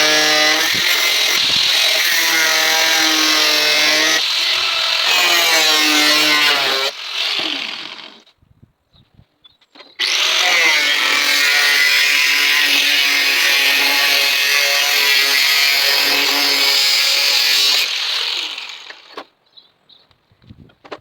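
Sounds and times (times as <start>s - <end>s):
electric grinder cutting steel: 0.0s - 8.2s, 10.0s - 19.2s.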